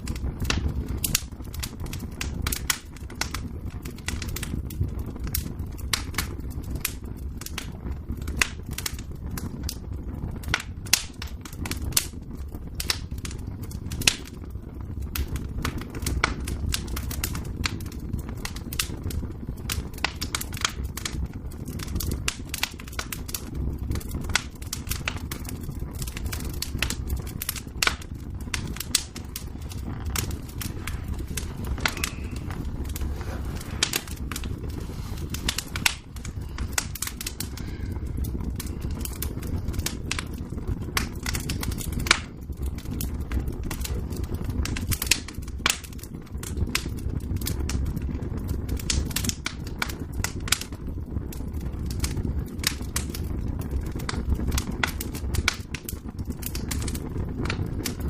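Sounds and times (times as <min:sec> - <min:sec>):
fire low rumble: 0:00.0 - 0:58.0
wood fire crackling and popping: 0:00.0 - 0:58.0.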